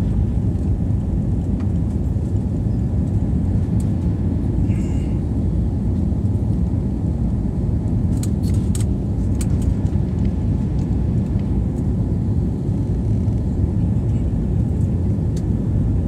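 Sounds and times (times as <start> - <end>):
jet cabin engine and airflow noise: 0.0 - 16.0.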